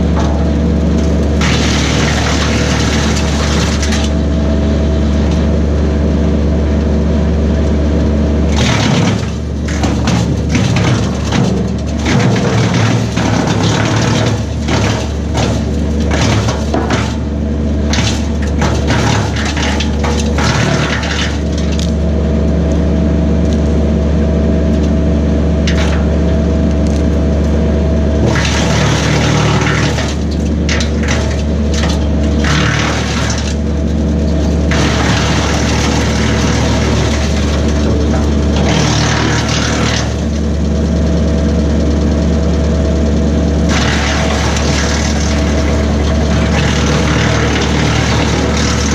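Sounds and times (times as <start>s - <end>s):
tractor diesel engine running: 0.0s - 48.9s
wood chipper crunching branches: 0.0s - 48.9s.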